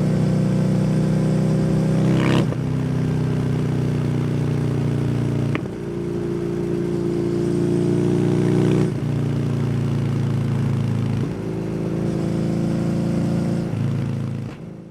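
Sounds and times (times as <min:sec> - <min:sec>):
motorcycle engine revving while riding: 0:00.0 - 0:14.9.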